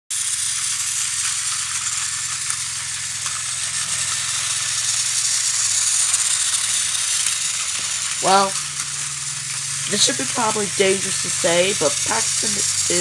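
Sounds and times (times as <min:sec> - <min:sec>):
plastic wheels rattling on track: 0:00.1 - 0:13.0
toy train motors whirring: 0:00.1 - 0:13.0.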